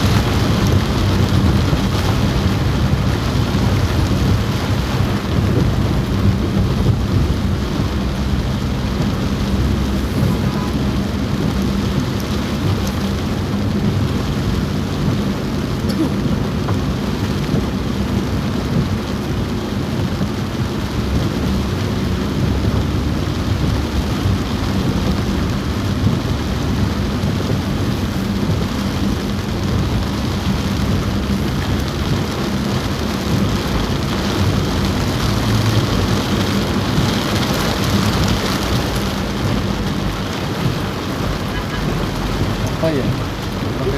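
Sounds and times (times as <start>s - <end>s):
heavy rain on a car roof: 0.0s - 43.9s
steady low rumble: 0.0s - 43.9s.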